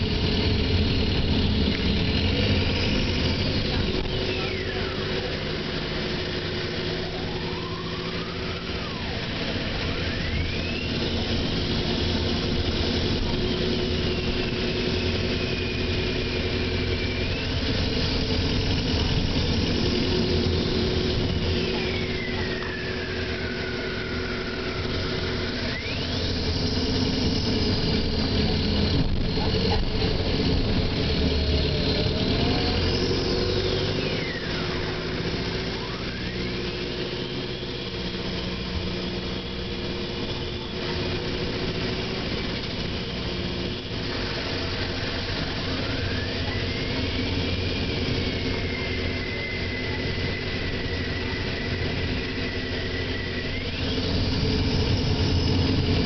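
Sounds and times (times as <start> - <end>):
bus diesel engine drone: 0.0 - 56.0
high whine rising and falling: 0.0 - 56.0.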